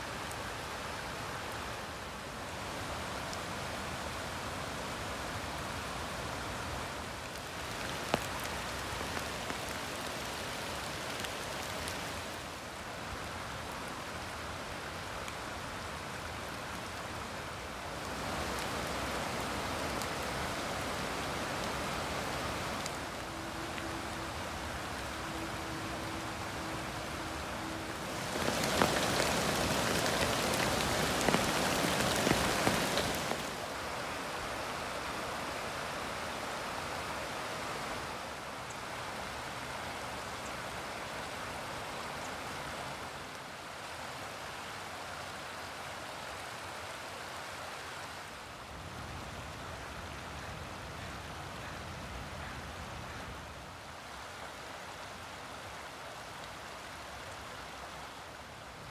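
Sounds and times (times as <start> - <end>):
creek running over stones: 0.0 - 51.7.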